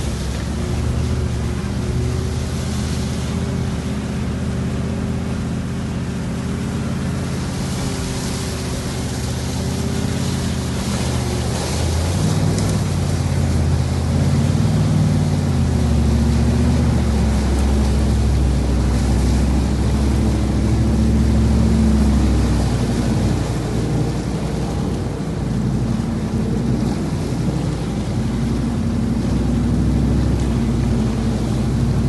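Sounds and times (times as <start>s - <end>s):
diesel engine under load: 0.0s - 32.0s
water sloshing and splashing: 0.0s - 32.0s.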